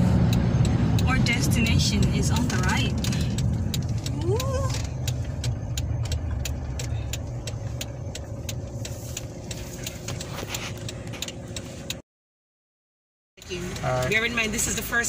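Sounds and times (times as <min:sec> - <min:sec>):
car engine and road rumble: 0:00.0 - 0:12.0, 0:13.4 - 0:15.0
light even ticking: 0:00.2 - 0:12.0, 0:13.4 - 0:15.0.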